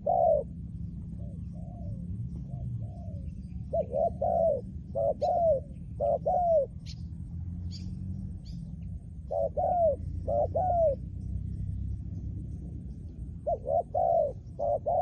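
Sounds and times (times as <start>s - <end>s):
dove cooing: 0.0s - 7.1s, 7.7s - 11.2s, 13.2s - 15.0s.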